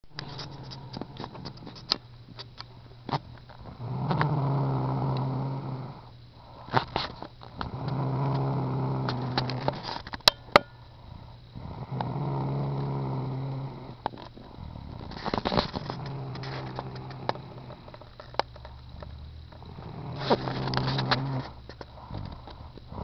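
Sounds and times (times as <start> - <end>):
crackling: 0.0 - 10.3, 11.3 - 23.0
buzzing snores: 0.1 - 2.0, 3.1 - 10.0, 10.9 - 23.0.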